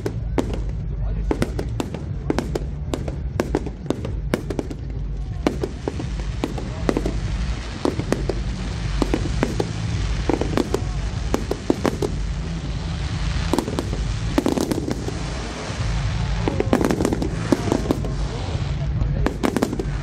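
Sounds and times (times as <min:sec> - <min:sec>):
fireworks bangs and crackling: 0:00.0 - 0:20.0
low rumble: 0:00.0 - 0:20.0.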